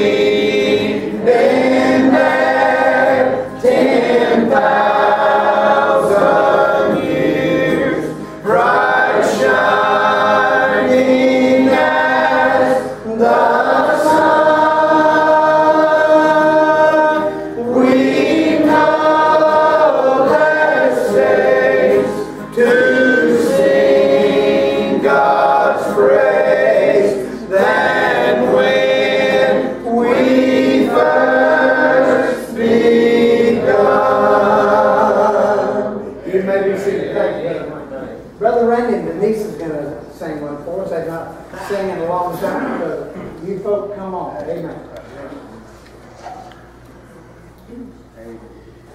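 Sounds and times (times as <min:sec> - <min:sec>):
congregation singing gospel song: 0:00.0 - 0:40.2.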